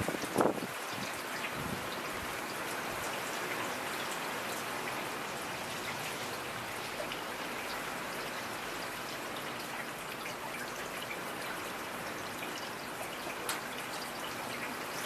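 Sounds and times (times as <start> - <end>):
rain drops pattering: 0.0 - 15.0.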